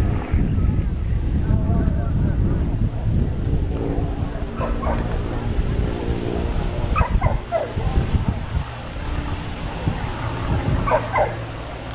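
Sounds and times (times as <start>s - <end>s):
propeller plane engine droning: 0.0s - 11.9s
wind noise on microphone: 0.0s - 11.9s.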